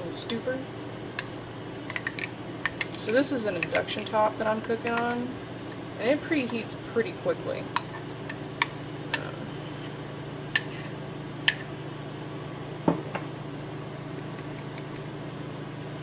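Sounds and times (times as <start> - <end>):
induction cooktop humming: 0.0 - 16.0.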